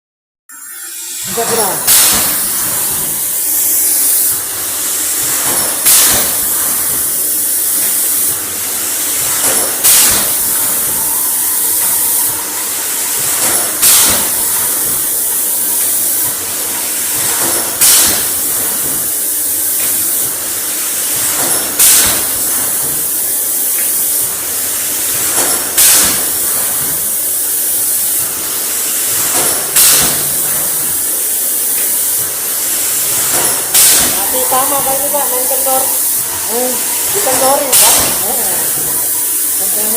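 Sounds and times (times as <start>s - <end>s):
machine hissing: 0.5s - 39.9s
sharp bursts of hiss: 0.9s - 39.9s.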